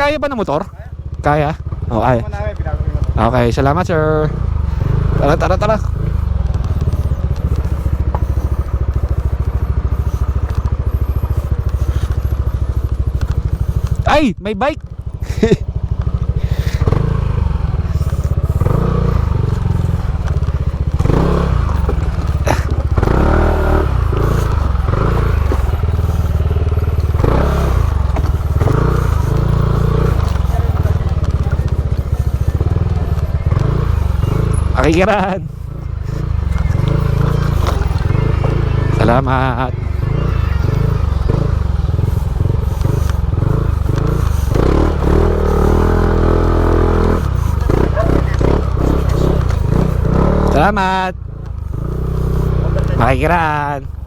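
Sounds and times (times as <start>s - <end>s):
motorcycle engine running: 0.0s - 54.0s
motorcycle rattles and knocks: 0.0s - 54.0s.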